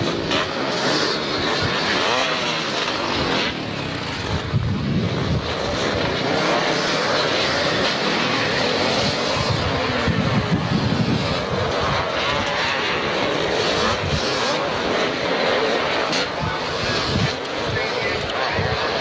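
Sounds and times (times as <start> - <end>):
motocross motorcycles revving: 0.0 - 19.0.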